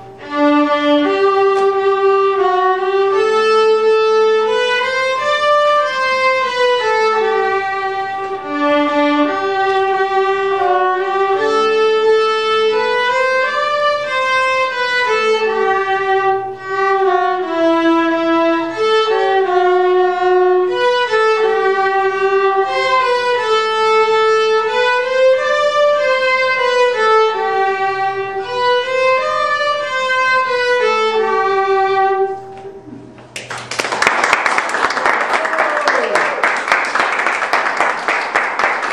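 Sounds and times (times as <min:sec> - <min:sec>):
viola duet: 0:00.0 - 0:33.5.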